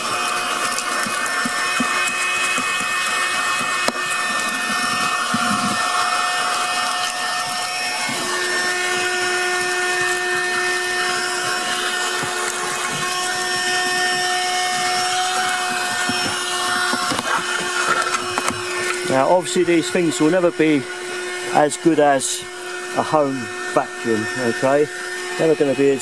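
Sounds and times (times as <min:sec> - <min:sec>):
car vacuum cleaner whining: 0:00.0 - 0:26.0.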